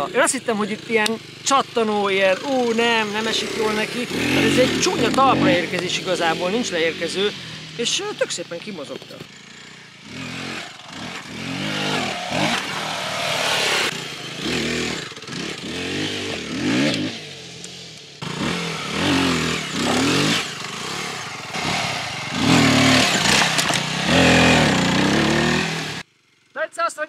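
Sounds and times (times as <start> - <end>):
motorcycle engine revving: 0.0 - 26.5.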